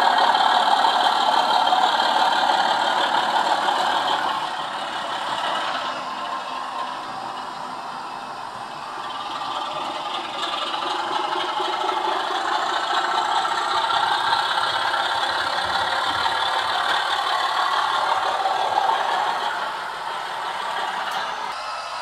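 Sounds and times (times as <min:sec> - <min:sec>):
model train running and rattling: 0:00.0 - 0:22.0.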